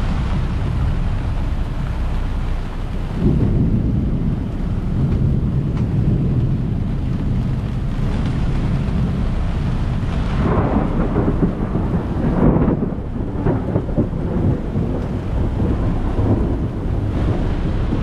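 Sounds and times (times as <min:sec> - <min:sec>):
rain: 0:00.0 - 0:18.0
strong wind buffeting microphone: 0:00.0 - 0:18.0.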